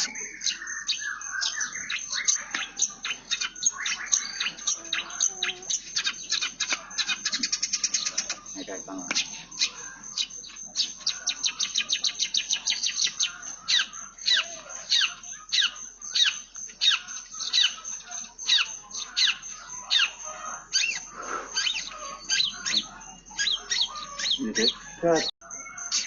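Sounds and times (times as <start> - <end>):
shrike singing sharp chirps: 0.0 - 26.0.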